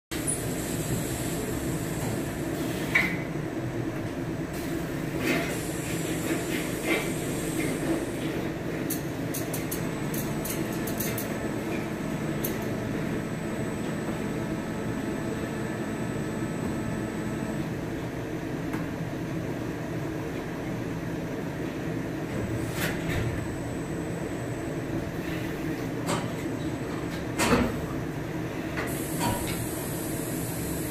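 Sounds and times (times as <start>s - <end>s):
machines humming: 3.4s - 19.9s, 21.2s - 30.9s.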